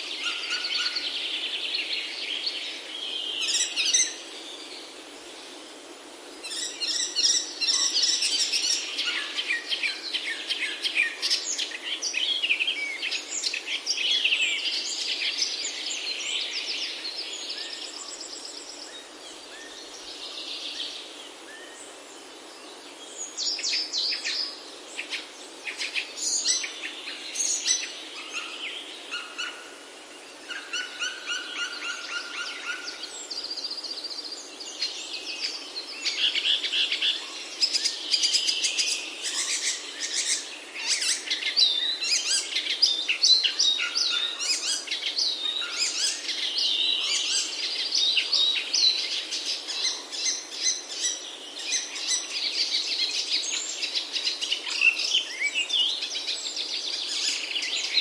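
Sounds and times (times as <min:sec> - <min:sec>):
birds chirping and trilling: 0:00.0 - 0:05.6, 0:06.4 - 0:58.0
steady background hiss: 0:00.0 - 0:58.0.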